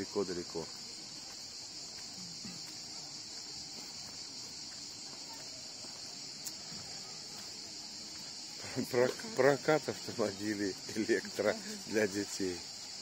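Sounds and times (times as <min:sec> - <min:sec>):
cicadas chirping: 0:00.0 - 0:13.0.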